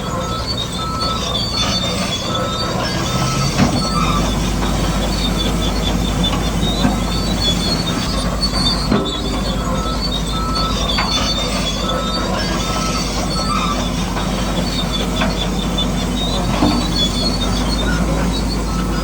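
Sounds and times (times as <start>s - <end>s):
gears and tracks rattling: 0.0s - 19.0s
small electric motors whining: 0.0s - 19.0s.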